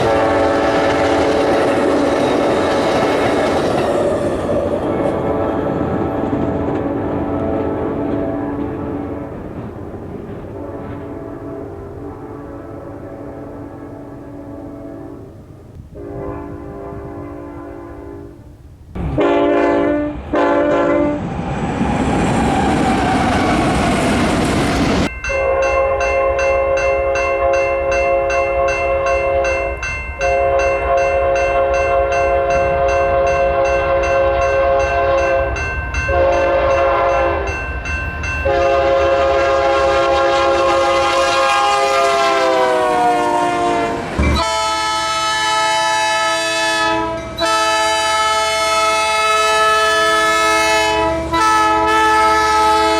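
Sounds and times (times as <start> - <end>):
locomotive horn blasts: 0.0 - 2.8, 6.9 - 9.3, 10.6 - 21.2, 25.3 - 37.6, 38.4 - 52.9
locomotive horn chord: 0.0 - 2.8, 6.8 - 9.4, 10.6 - 21.2, 25.2 - 37.6, 38.4 - 52.9.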